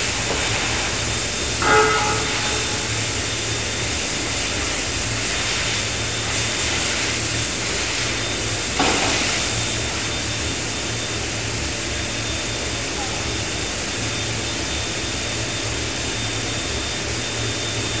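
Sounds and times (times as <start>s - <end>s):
machinery hiss and hum: 0.0s - 18.0s.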